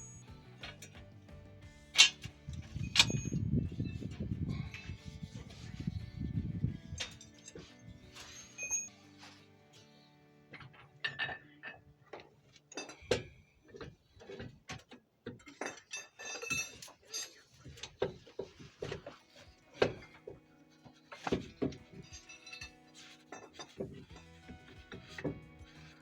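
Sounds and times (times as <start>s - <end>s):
metal tools clinking: 0.0s - 5.8s, 6.8s - 9.5s, 10.5s - 26.0s.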